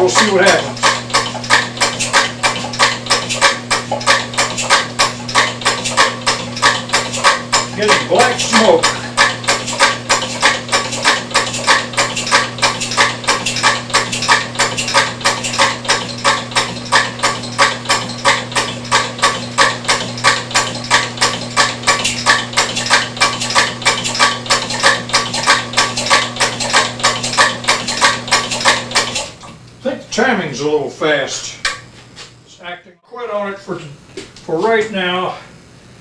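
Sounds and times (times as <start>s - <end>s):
engine valve gear clattering: 0.0s - 29.5s.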